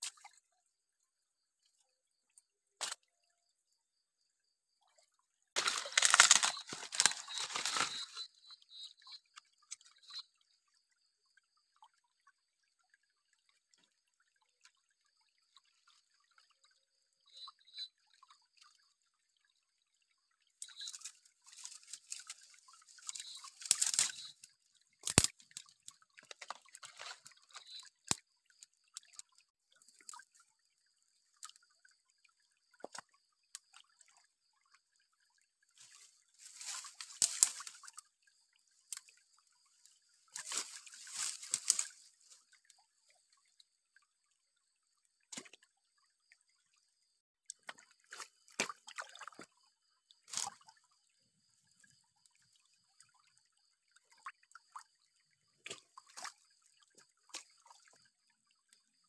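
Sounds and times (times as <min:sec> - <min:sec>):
water sloshing and pouring: 0:00.0 - 0:59.0.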